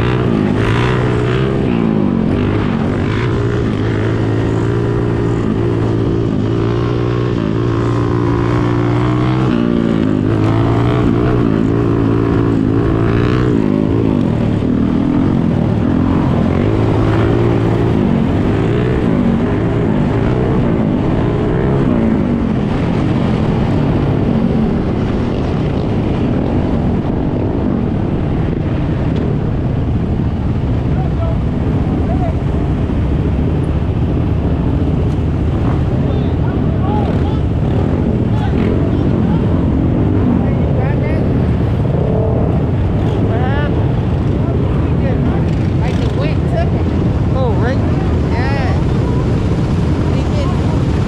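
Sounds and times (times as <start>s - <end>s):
dirt bike engine revving: 0.0s - 27.6s, 32.3s - 51.0s
wind: 0.0s - 51.0s.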